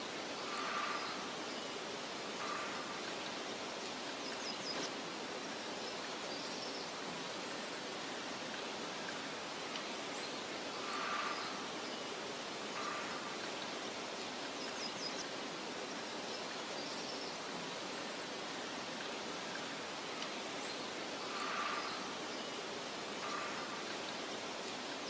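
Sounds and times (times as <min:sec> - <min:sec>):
rushing hiss: 0:00.0 - 0:25.0.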